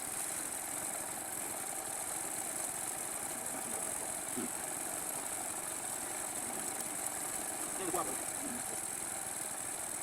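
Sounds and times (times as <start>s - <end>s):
machine running with high hiss: 0.0s - 10.0s.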